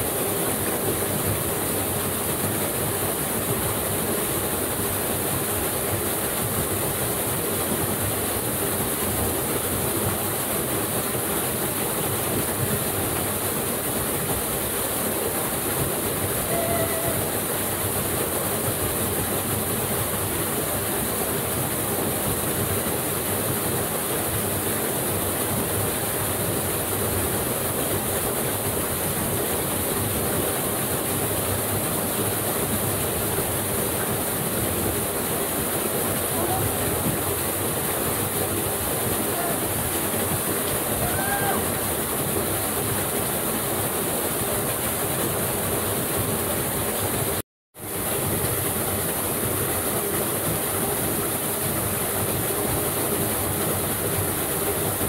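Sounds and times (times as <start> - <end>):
waterfall splashing into pool: 0.0 - 55.0.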